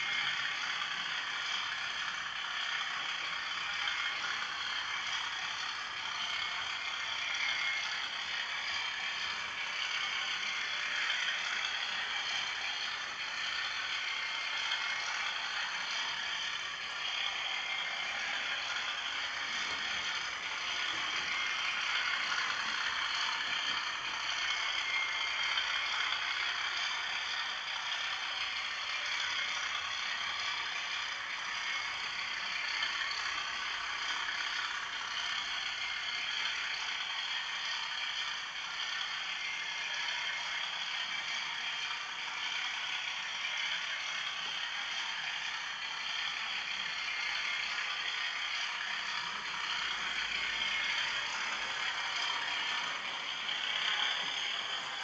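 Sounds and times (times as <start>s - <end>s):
model train motor running: 0.0s - 55.0s.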